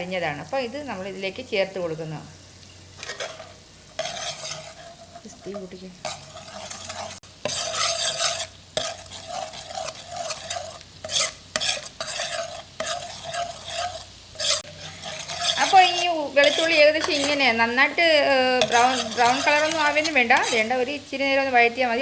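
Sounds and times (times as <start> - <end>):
garlic sizzling in butter: 0.0 - 22.0
utensil scraping a pan: 3.0 - 21.2.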